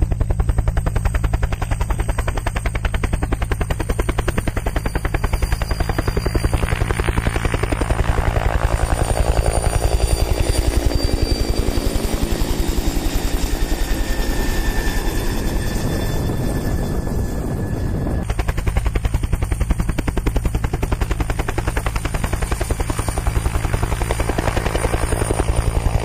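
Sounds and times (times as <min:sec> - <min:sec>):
helicopter rotor chop: 0:00.0 - 0:26.0
high engine whine: 0:00.0 - 0:26.0.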